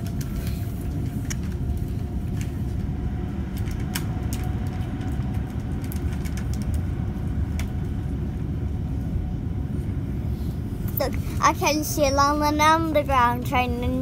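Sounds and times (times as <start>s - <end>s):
electric train rumbling: 0.0s - 14.0s
faint steady hum: 0.0s - 14.0s.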